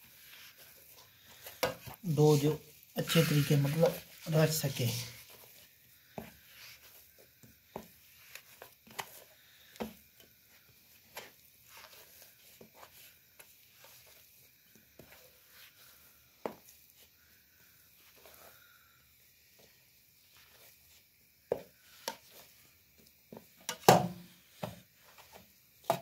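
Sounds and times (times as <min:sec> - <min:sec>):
hands kneading dough: 0:00.0 - 0:23.7.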